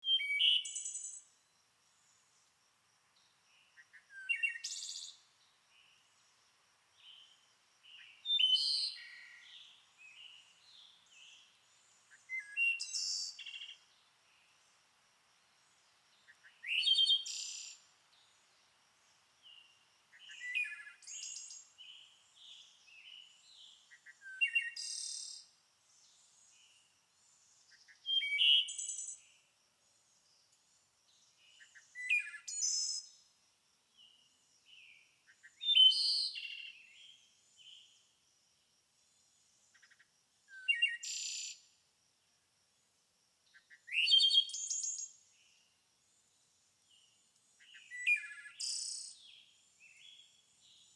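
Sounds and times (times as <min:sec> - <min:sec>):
songbird singing: 0:00.0 - 0:38.2, 0:39.1 - 0:41.8, 0:43.5 - 0:50.9.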